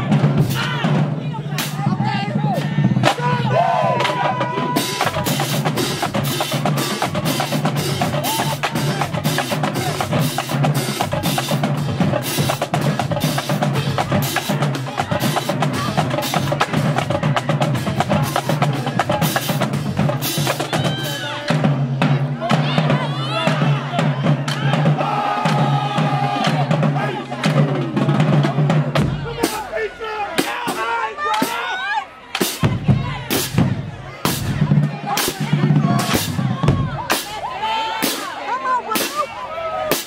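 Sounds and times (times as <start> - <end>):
marching snare drums: 0.0 - 29.8, 30.4 - 31.6, 32.3 - 40.0.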